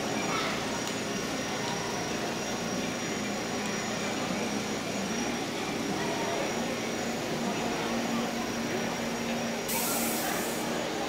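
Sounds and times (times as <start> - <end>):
distant crowd talking: 0.0 - 11.0.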